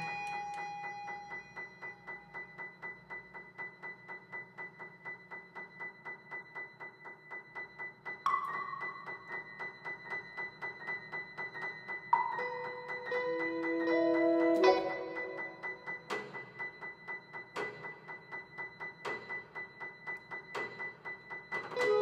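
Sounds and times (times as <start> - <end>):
soft repeated piano notes: 0.0 - 19.8, 20.4 - 22.0
held tones: 0.0 - 22.0.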